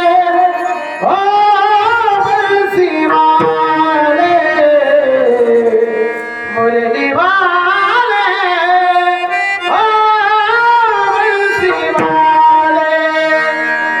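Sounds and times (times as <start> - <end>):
man singing devotional melody: 0.0 - 14.0
tabla strokes: 0.1 - 8.0, 8.7 - 14.0.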